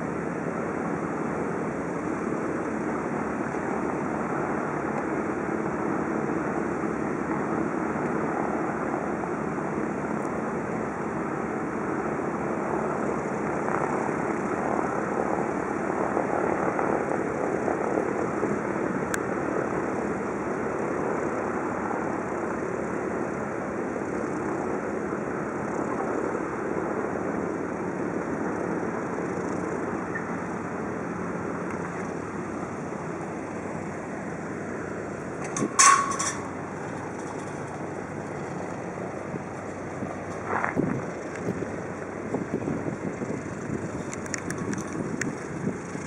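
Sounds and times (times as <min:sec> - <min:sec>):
propeller aircraft engine drone: 0:00.0 - 0:46.0.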